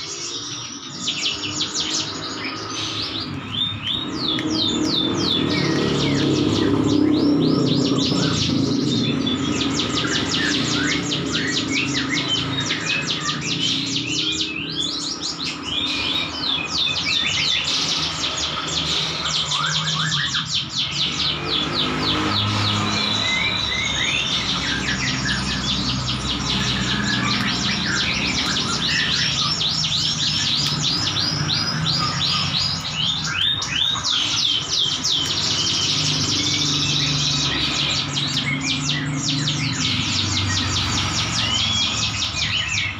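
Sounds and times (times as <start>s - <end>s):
bird singing fast high trill: 0.0s - 42.9s.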